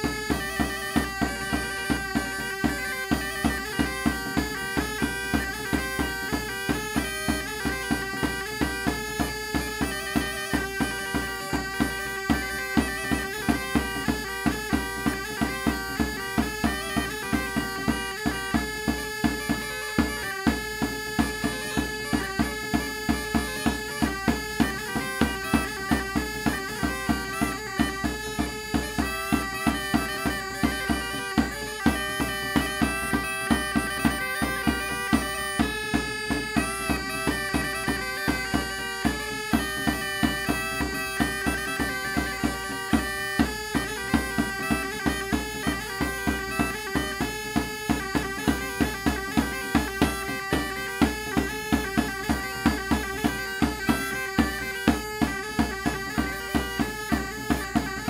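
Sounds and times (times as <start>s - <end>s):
bagpipe playing dance melody: 0.0s - 58.0s
drum beating steady rhythm: 0.0s - 58.0s.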